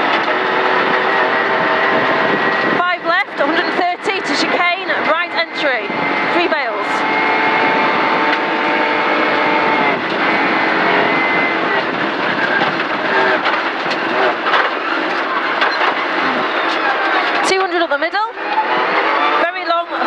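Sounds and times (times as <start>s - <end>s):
car knocks and rattles: 0.0s - 19.7s
rally car engine revving: 0.0s - 20.0s.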